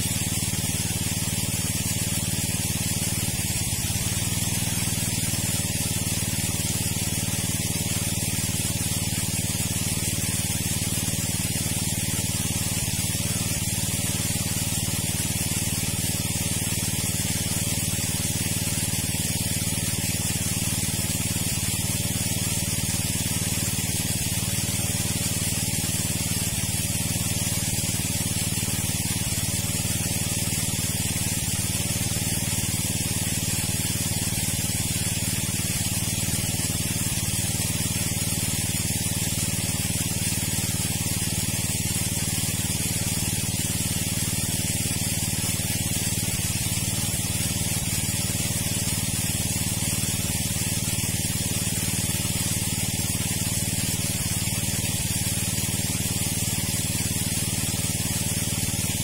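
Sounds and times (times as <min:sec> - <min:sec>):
gushing water hiss: 0:00.0 - 0:59.0
water pump running: 0:00.0 - 0:59.0.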